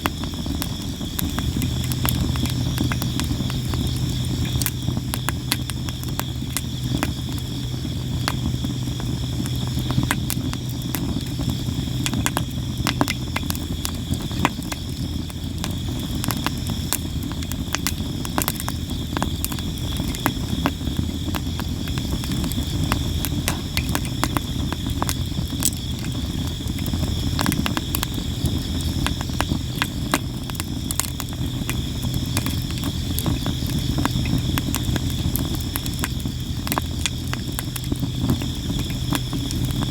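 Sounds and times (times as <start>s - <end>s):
campfire crackling and popping: 0.0s - 39.9s
insects chirping: 0.0s - 39.9s.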